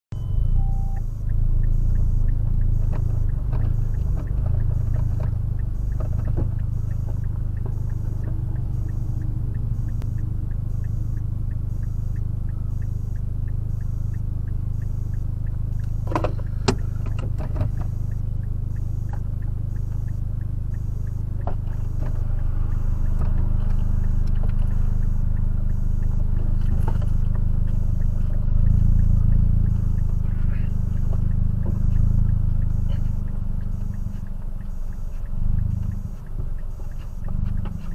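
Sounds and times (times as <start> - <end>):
car engine idling: 0.1 - 37.9
sharp clicks: 0.8 - 37.9.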